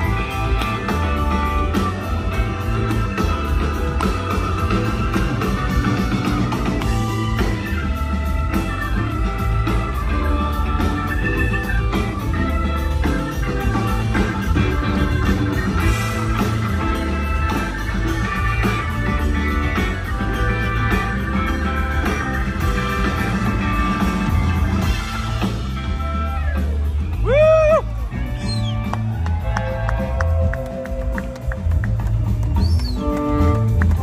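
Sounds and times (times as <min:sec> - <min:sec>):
bass: 0:00.0 - 0:34.0
drums: 0:00.0 - 0:34.0
electric guitar lines: 0:00.0 - 0:34.0
keyboards: 0:00.0 - 0:34.0.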